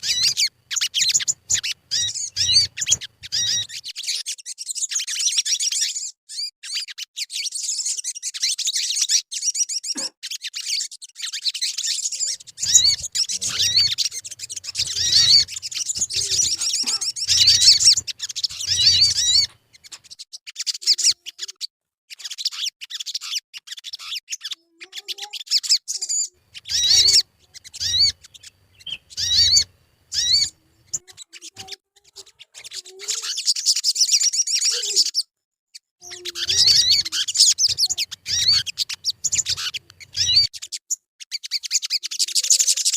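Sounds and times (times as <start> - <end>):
bird chirping and twittering: 0.0 - 42.9.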